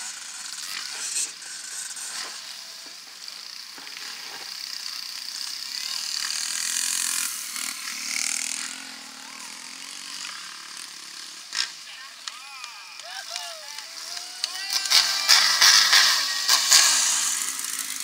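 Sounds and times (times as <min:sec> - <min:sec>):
dirt bike engine rasping: 0:00.0 - 0:18.0.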